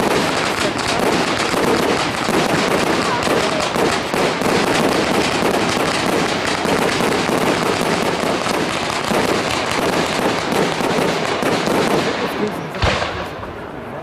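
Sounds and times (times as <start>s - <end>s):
fireworks popping and banging: 0.0s - 13.7s.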